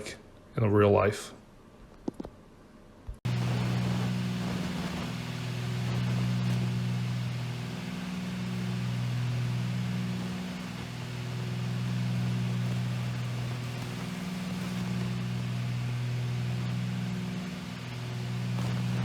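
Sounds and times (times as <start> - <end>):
aircraft propeller engines droning: 3.3 - 19.0.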